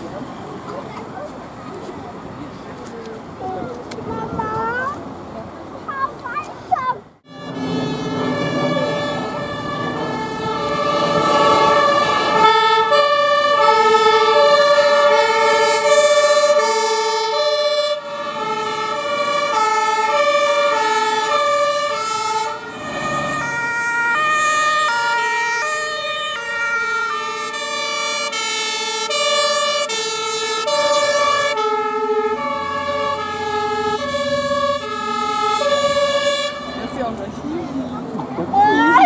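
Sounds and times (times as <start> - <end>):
fire engine two-tone sirens: 7.2 - 39.0.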